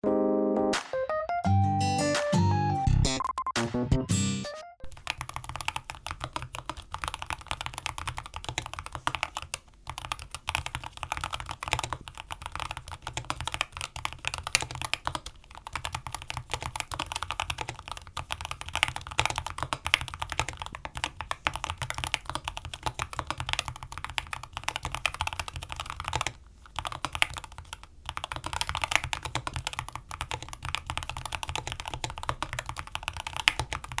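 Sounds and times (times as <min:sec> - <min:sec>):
fast keyboard typing: 0:04.9 - 0:34.0.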